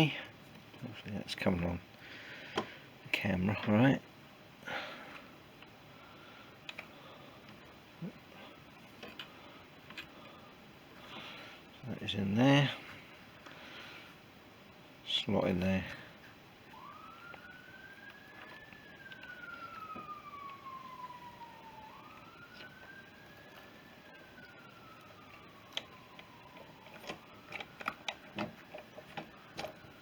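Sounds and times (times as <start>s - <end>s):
faint siren wailing: 0.0s - 30.0s.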